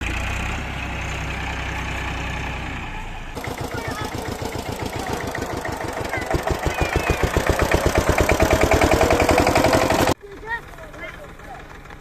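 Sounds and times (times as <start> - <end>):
tractor engine chugging: 0.0 - 12.0.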